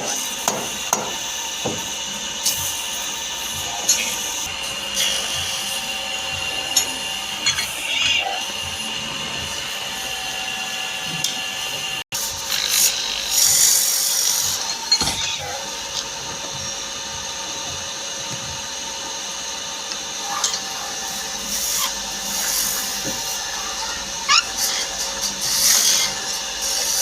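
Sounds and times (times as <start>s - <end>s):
wood lathe whining: 0.0s - 27.0s.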